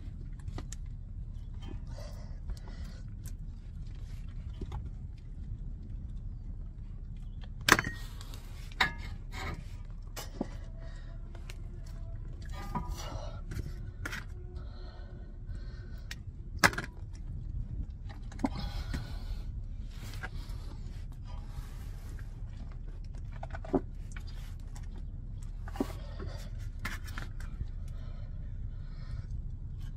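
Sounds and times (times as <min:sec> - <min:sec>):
low background rumble: 0:00.0 - 0:29.9.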